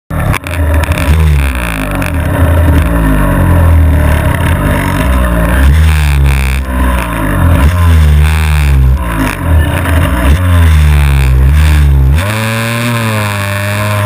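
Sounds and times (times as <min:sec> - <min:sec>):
small two-stroke engine revving: 0:00.1 - 0:14.0.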